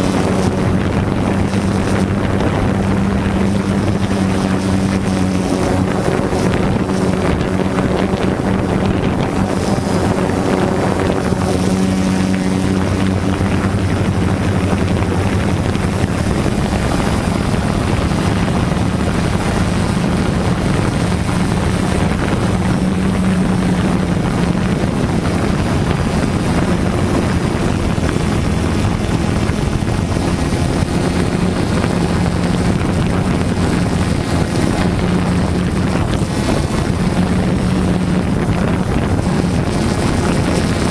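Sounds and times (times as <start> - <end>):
drone motors humming: 0.0 - 40.9
wind on microphone: 0.0 - 40.9.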